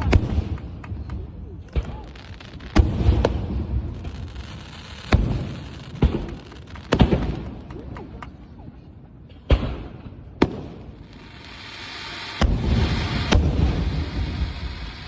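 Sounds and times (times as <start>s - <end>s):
fireworks bursting with rumble: 0.0s - 8.6s, 9.5s - 15.0s.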